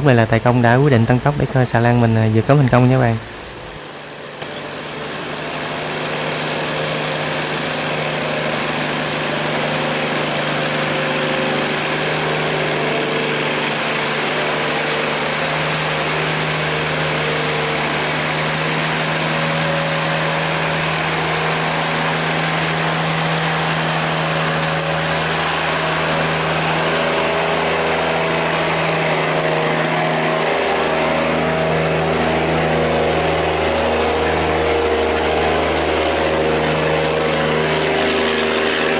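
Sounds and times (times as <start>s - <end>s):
barge engine running hard: 0.0s - 38.9s.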